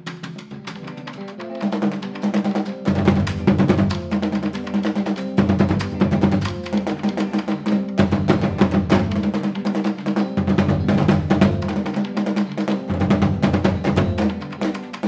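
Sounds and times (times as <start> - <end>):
fast drumming on hide drums: 0.0 - 15.0.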